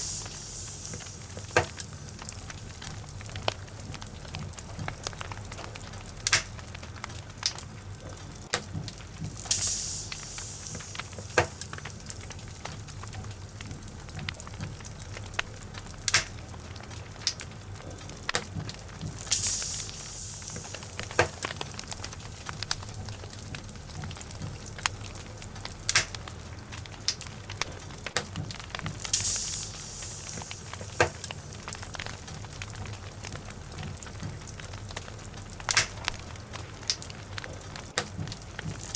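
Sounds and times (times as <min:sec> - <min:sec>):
fire crackling and popping: 0:00.0 - 0:38.9
fire hissing: 0:00.0 - 0:38.9
low fire rumble: 0:00.0 - 0:38.9.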